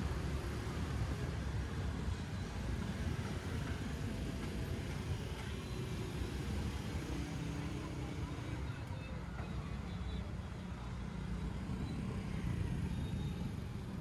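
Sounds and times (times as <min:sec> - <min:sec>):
scooters and cars passing: 0:00.0 - 0:14.0.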